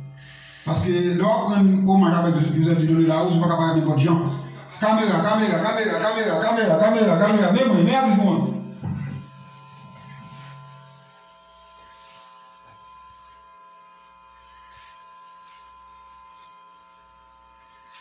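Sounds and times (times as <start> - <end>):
high whine: 0.0 - 18.0.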